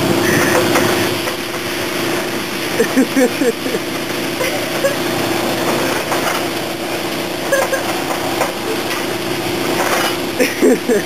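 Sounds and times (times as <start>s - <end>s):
machine hum: 0.0s - 11.0s
spraying water hiss: 0.0s - 11.0s.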